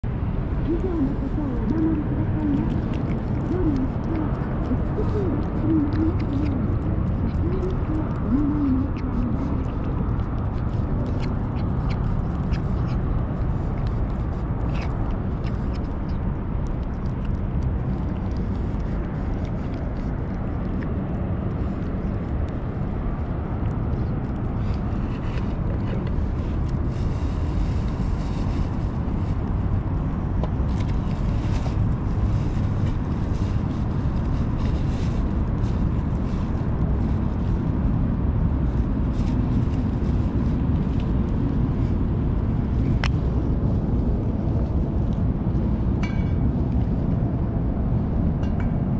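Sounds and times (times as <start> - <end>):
low outdoor rumble: 0.0 - 48.9.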